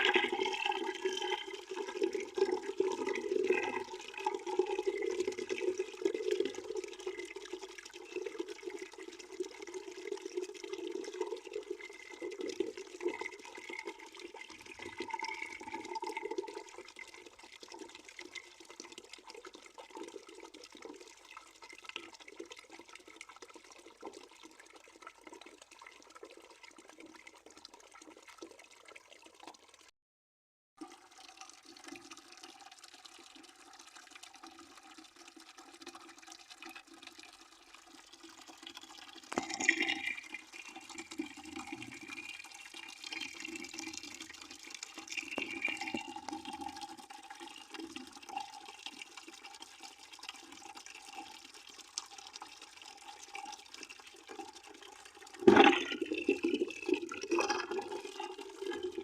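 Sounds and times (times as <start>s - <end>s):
water running into bucket: 0.0s - 29.9s, 30.8s - 59.0s.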